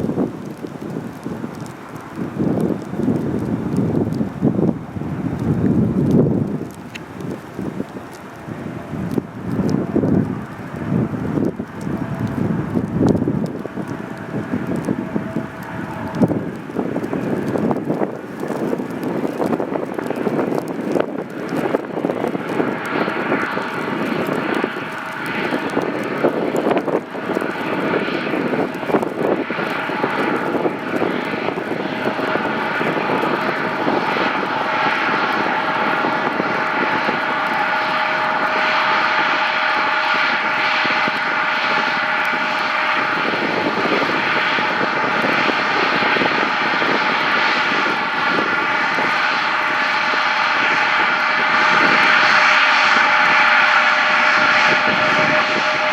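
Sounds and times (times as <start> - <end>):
jet engines whining: 0.0 - 55.9
wind buffeting microphone: 0.0 - 55.9.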